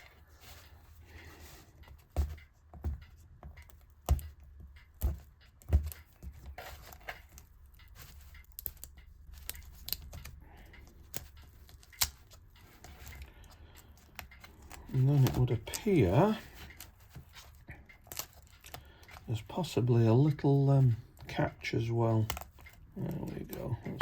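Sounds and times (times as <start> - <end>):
small rustles and clicks: 0.0 - 24.0.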